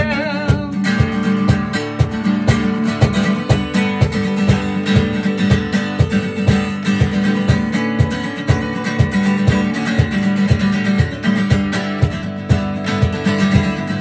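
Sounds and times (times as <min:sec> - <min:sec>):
sharp percussive hits: 0:00.0 - 0:14.0
strummed acoustic guitar chords: 0:00.0 - 0:14.0.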